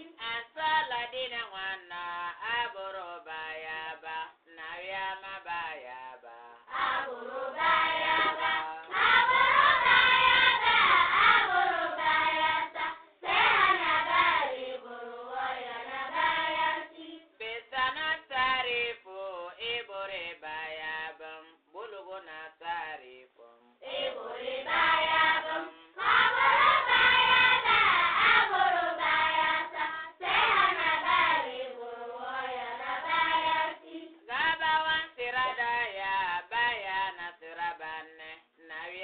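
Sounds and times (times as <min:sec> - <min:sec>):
voices singing devotional song: 0:00.0 - 0:39.0.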